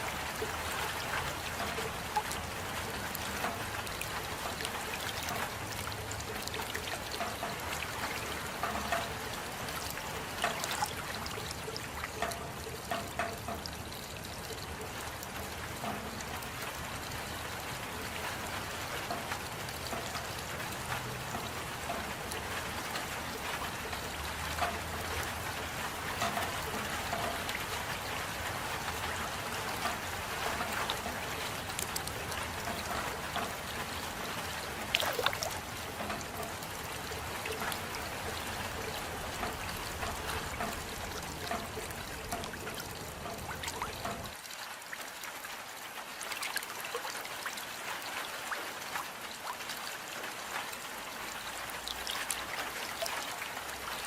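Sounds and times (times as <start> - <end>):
raindrops ticking and splashing: 0.0 - 54.0
steady rain falling: 0.0 - 54.0.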